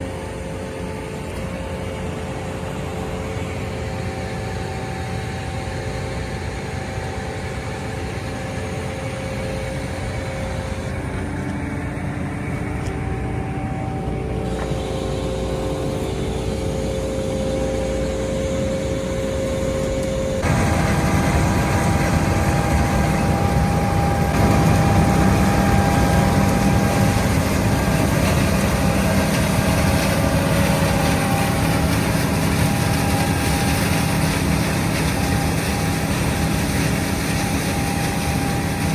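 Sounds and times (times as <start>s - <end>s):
farm machinery engine whining: 0.0s - 38.9s.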